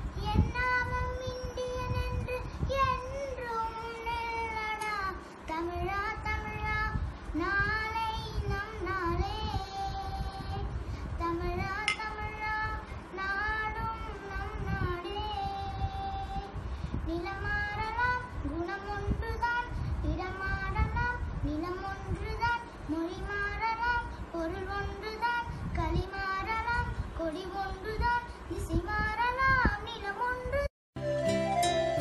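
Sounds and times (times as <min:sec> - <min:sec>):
girl singing: 0:00.0 - 0:30.7.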